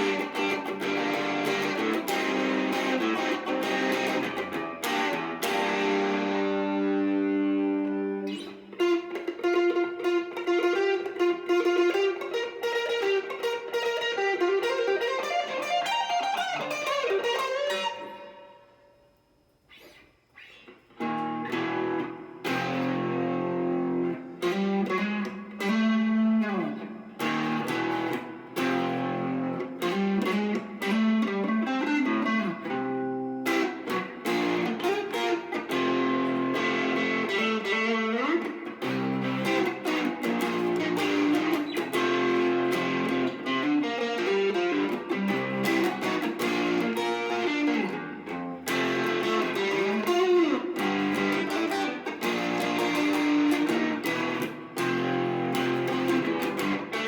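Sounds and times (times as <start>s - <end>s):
electric guitar rock riffs: 0.0s - 18.9s, 19.7s - 57.0s.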